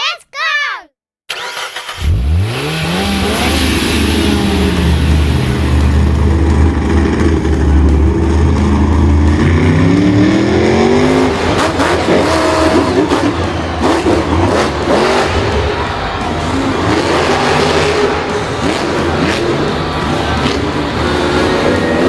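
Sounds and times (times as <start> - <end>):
vehicle engine revving: 1.3 - 22.0.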